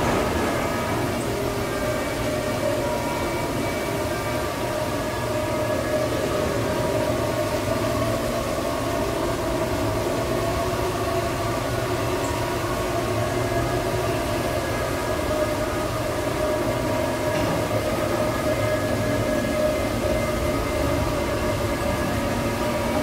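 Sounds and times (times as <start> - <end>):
ride machinery humming: 0.0 - 23.0.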